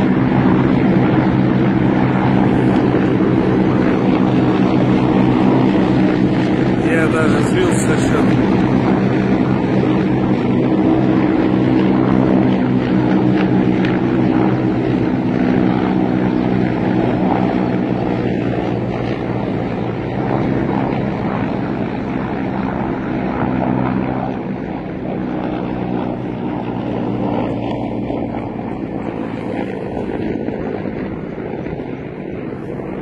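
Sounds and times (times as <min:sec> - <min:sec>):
helicopters flying past: 0:00.0 - 0:33.0.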